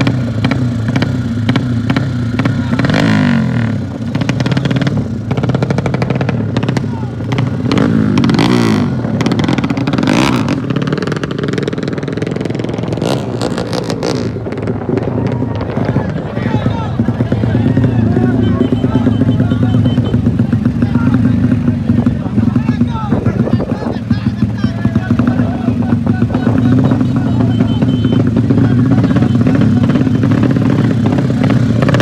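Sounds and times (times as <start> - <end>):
dirt bike engines running hard: 0.0 - 32.0.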